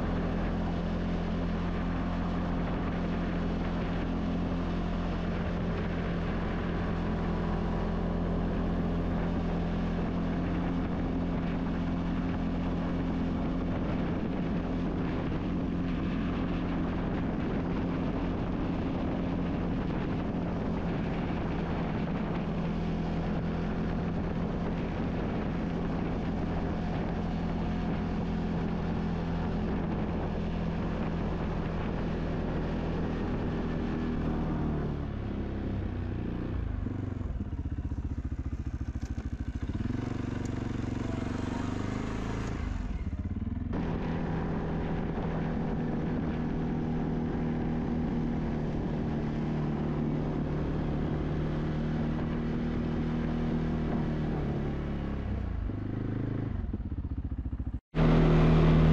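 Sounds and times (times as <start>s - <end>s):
snow plow pushing snow: 0.0s - 56.4s, 58.0s - 58.9s
atv engine running: 0.0s - 58.9s.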